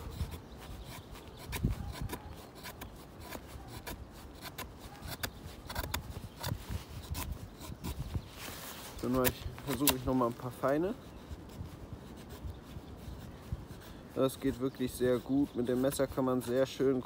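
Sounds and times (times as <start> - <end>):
knife shaving wet stick: 0.0 - 7.9, 8.8 - 17.0.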